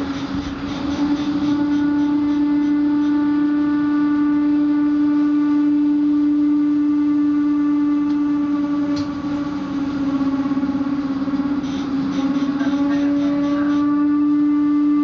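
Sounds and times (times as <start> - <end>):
train running heard from carriage: 0.0 - 15.0.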